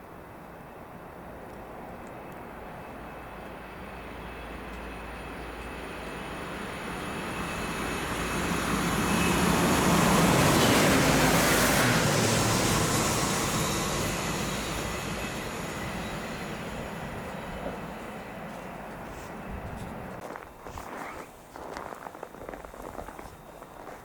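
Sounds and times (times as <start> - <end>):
train passing on rails: 0.0 - 24.0.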